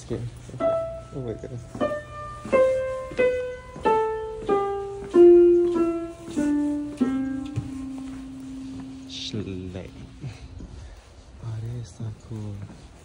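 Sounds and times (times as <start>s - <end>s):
piano stair notes: 0.0s - 13.0s.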